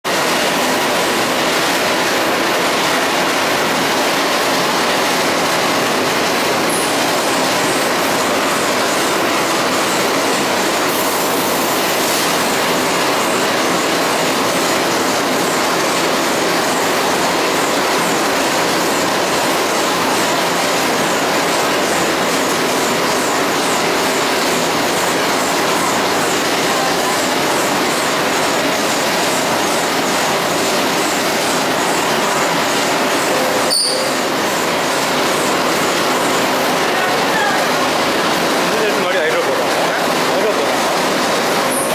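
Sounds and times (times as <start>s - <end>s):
washing machine drum rushing: 0.1s - 41.9s.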